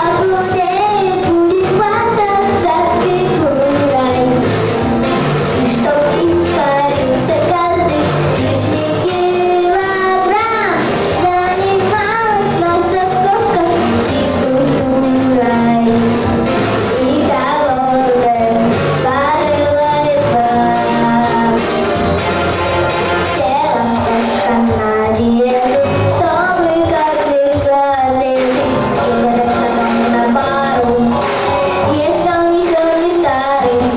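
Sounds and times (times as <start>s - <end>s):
girl singing: 0.0s - 4.6s, 5.5s - 21.8s, 23.2s - 33.9s
backing track with steady beat: 0.0s - 33.9s.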